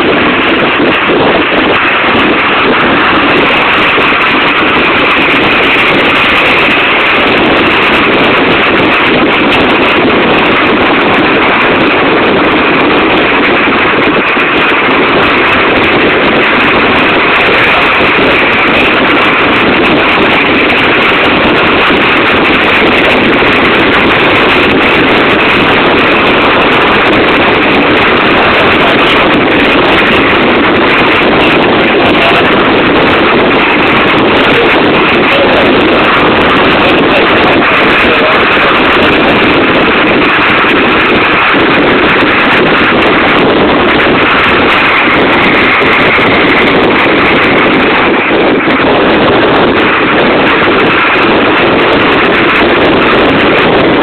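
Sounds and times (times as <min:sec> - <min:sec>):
car engine and road noise: 0:00.0 - 0:54.0
wind rushing over microphone: 0:00.0 - 0:54.0.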